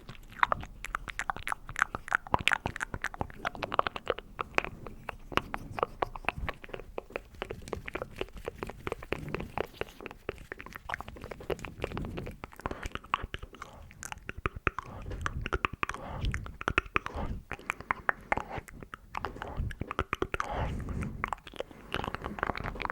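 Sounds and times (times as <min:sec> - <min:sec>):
wet lip and tongue clicks: 0:00.0 - 0:22.9.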